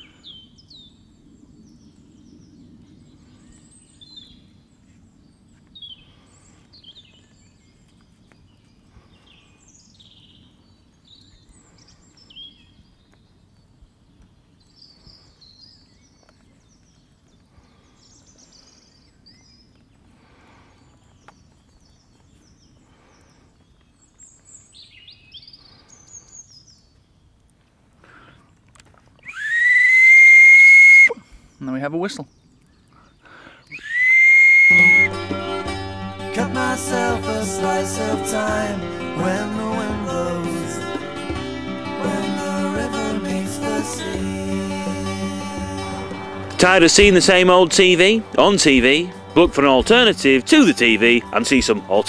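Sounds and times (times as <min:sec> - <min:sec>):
birds chirping and singing: 0:00.0 - 0:27.4, 0:34.7 - 0:52.0.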